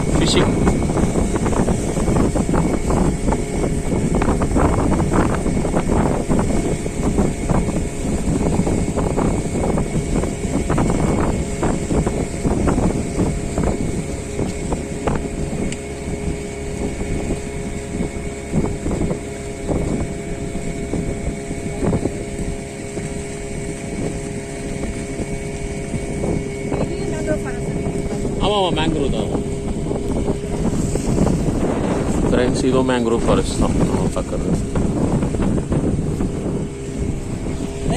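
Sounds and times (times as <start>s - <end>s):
motorboat engine running: 0.0s - 37.9s
wind on microphone: 0.0s - 37.9s.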